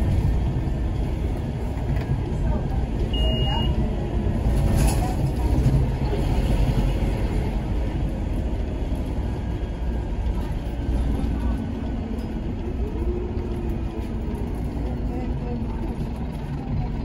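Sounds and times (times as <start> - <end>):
bus engine running: 0.0 - 17.0
low road and body rumble: 0.0 - 17.0.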